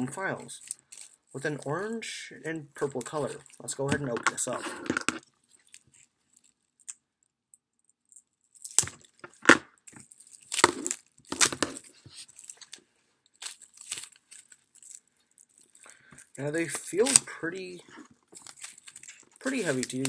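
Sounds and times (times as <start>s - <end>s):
plastic wrapping tearing and crinkling: 0.0s - 7.0s, 8.1s - 20.0s.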